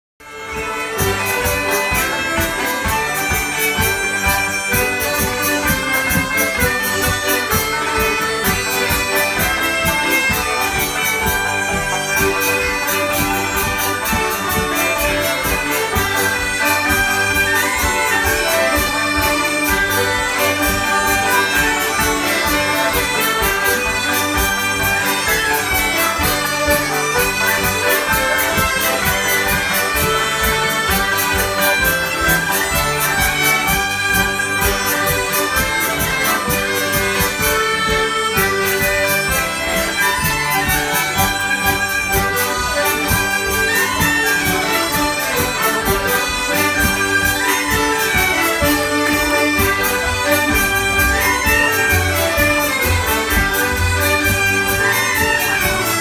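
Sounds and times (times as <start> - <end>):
folk ensemble playing: 0.2 - 56.0.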